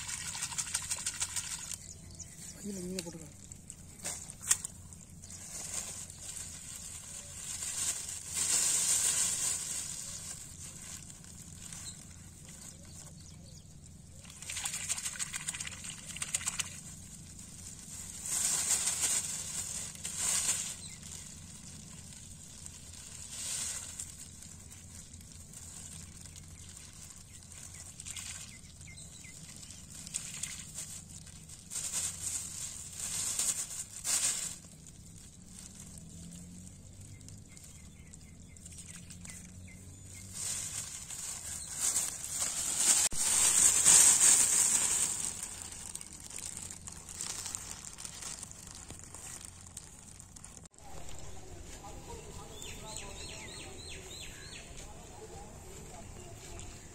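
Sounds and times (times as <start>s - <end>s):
faint low hum: 0.0s - 56.9s
plastic bag crinkling: 2.6s - 13.2s, 13.8s - 51.4s.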